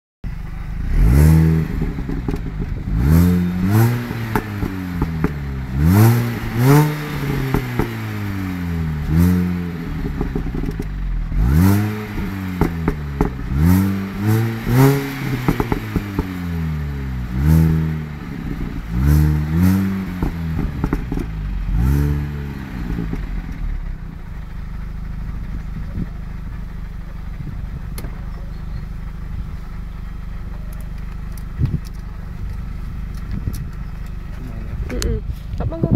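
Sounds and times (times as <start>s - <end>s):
car engine revving: 0.3s - 35.9s.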